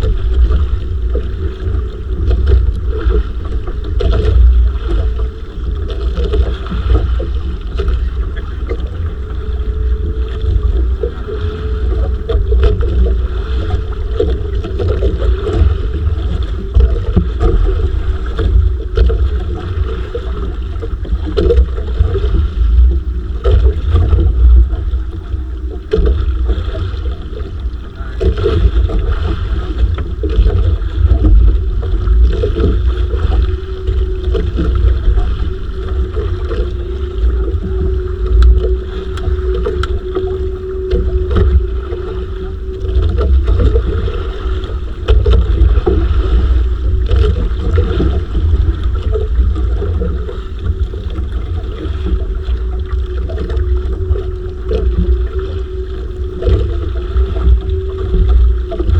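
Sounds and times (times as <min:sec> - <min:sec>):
boat engine running: 0:00.0 - 0:58.9
wind buffeting microphone: 0:00.0 - 0:58.9.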